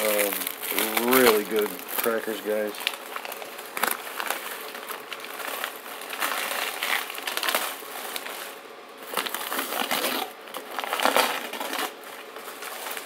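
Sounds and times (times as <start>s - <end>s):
wrapping crinkling and crumpling: 0.0s - 13.0s.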